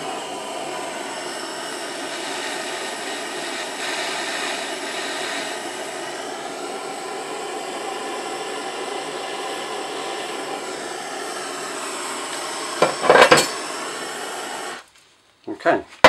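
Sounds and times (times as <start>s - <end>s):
blowtorch flame hissing: 0.0s - 14.9s.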